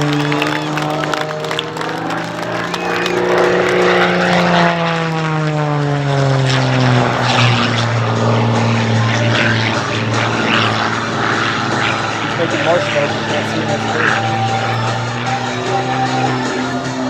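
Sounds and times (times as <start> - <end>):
propeller plane engine in flight: 0.0 - 17.0.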